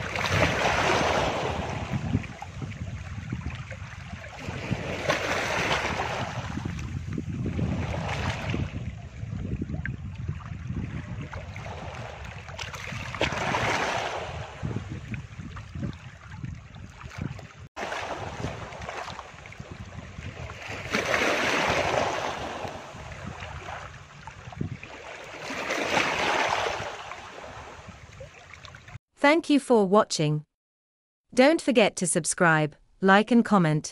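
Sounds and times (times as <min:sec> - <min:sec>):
sea water rushing: 0:00.0 - 0:29.0.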